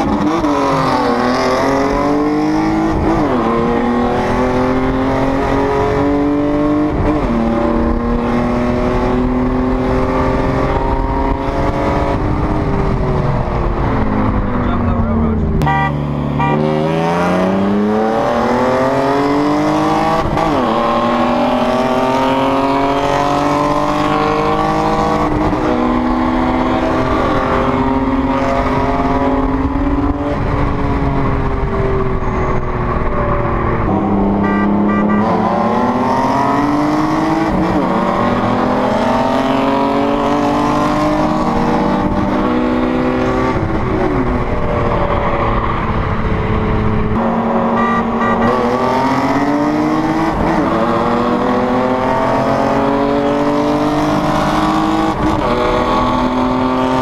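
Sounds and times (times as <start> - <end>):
car engine under full throttle: 0.0 - 57.0.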